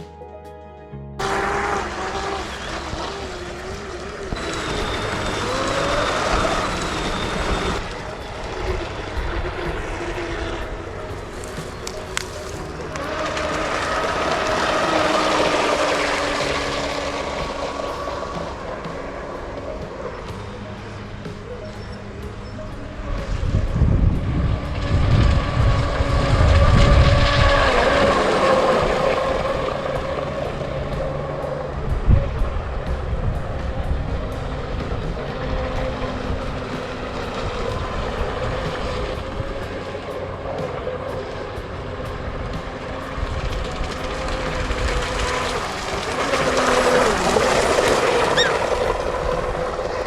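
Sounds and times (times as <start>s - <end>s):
electric motor whining: 1.2s - 50.0s
wind rumble on microphone: 1.2s - 50.0s.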